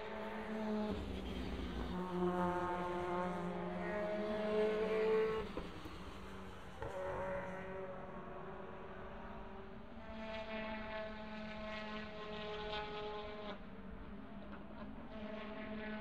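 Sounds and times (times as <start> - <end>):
distant racing car engines droning: 0.0 - 16.0.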